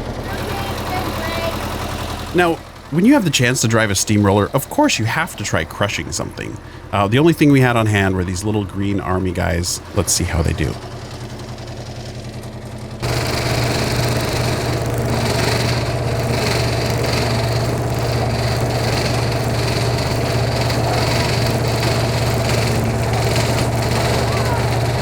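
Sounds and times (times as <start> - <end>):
road roller engine rumble: 0.0 - 25.0.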